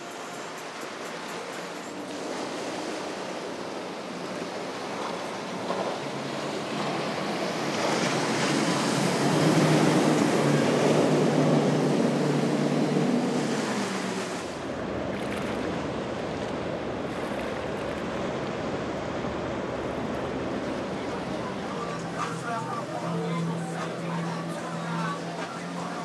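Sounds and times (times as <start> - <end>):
outboard engines droning: 0.0 - 26.0
rushing water and spray: 0.0 - 26.0.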